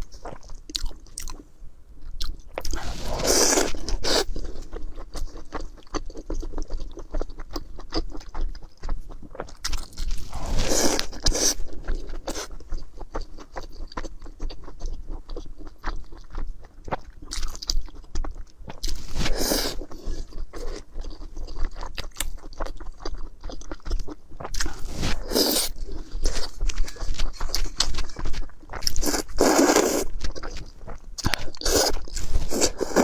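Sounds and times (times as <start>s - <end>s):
person chewing noodles: 0.0s - 1.4s, 2.0s - 33.0s.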